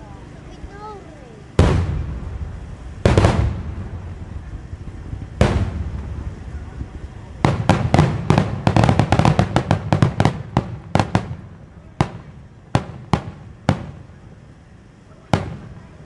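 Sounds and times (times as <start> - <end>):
firework shells bursting: 1.5 - 16.0.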